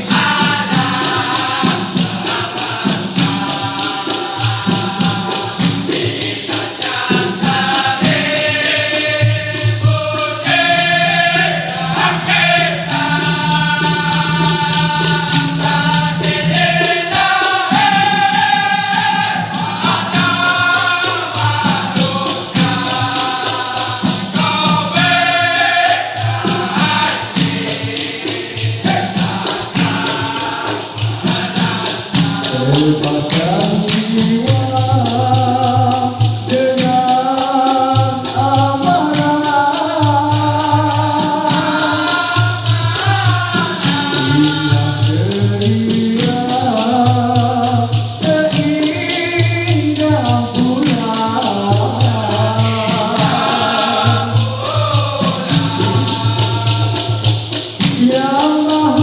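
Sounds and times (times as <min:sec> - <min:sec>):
fast percussion beat: 0:00.0 - 0:59.0
male chorus singing: 0:00.0 - 0:59.0.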